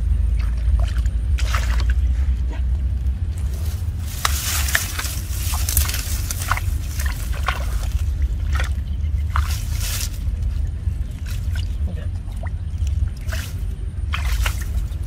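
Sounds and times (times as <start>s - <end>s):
muddy water sloshing and splashing: 0.0s - 15.0s
steady low rumble: 0.0s - 15.0s.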